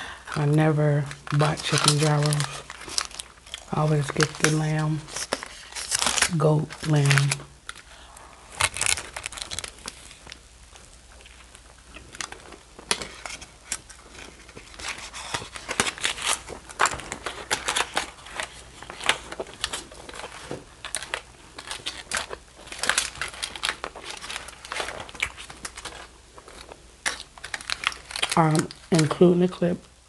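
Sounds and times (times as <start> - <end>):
aluminium foil crinkling: 0.0 - 29.9.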